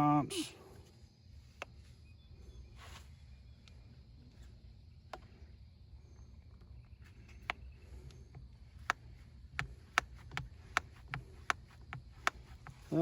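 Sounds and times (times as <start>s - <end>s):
steady low rumble: 0.5s - 13.0s.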